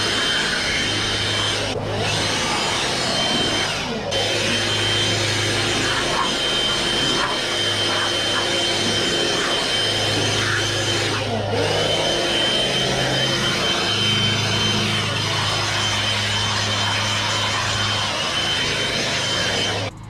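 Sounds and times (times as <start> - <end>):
electric blower whining: 0.0 - 20.0.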